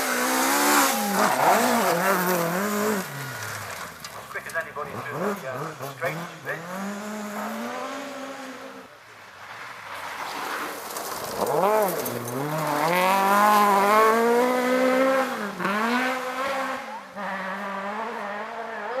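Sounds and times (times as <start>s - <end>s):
rally car engine revving: 0.0s - 8.9s, 10.8s - 19.0s.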